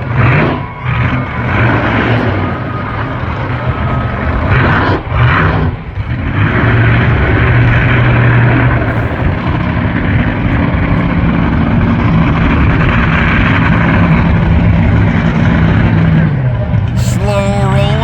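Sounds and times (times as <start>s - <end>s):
truck engine running loud: 0.0s - 18.0s.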